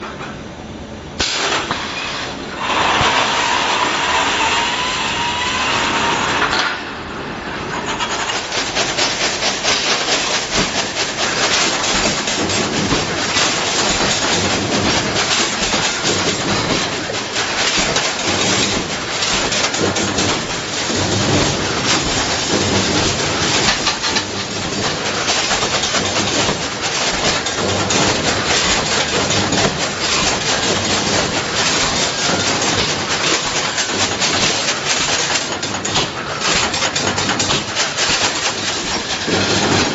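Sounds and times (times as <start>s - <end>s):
welding machine hissing: 1.2s - 6.4s, 7.9s - 39.7s
machine clattering clicks: 7.7s - 39.9s.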